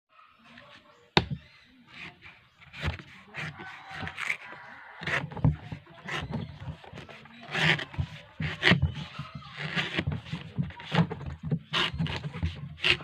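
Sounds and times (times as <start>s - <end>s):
scraping and rustling: 0.5s - 13.0s
blade chopping coconut: 1.2s - 13.0s.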